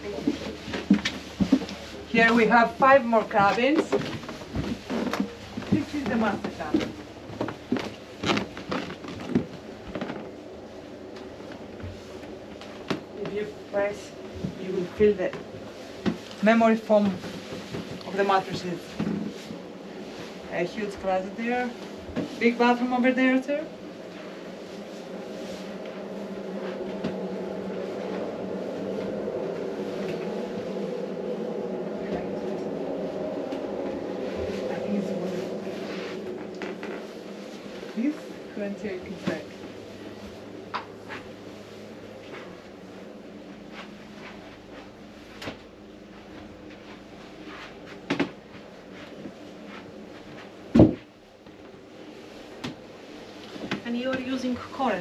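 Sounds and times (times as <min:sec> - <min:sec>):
low machinery hum: 0:00.0 - 0:55.0.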